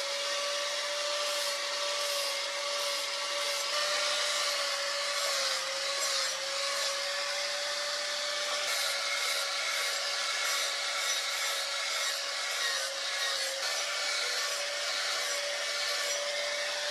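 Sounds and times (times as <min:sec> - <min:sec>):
angle grinder grinding steel: 0:00.0 - 0:16.9.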